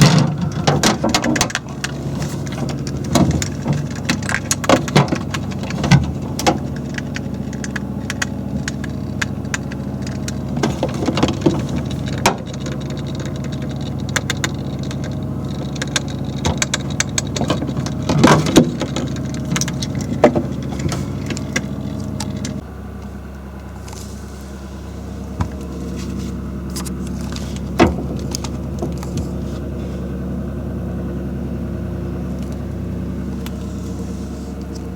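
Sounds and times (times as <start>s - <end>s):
refrigerator motor hum: 0.0s - 34.9s.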